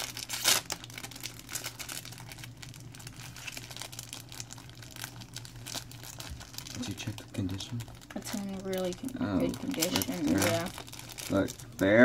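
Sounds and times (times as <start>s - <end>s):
cards crinkling and rustling: 0.0s - 12.0s
steady low hum: 0.0s - 12.0s.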